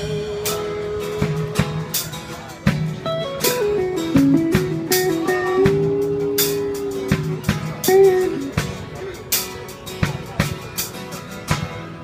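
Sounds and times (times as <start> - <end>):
lead guitar notes: 0.0 - 12.0
rock band playing: 0.0 - 12.0.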